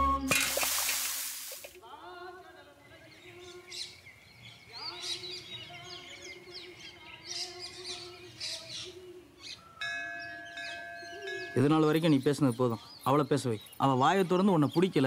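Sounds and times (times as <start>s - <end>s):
small birds chirping: 2.7s - 15.0s.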